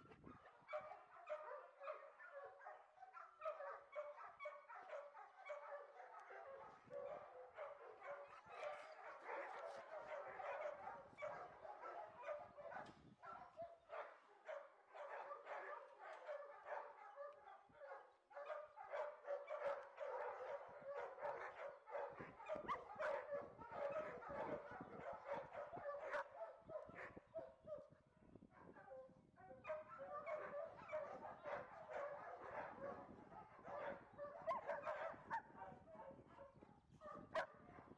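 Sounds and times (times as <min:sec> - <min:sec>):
dogs barking and yipping: 0:00.3 - 0:28.0, 0:28.7 - 0:37.9.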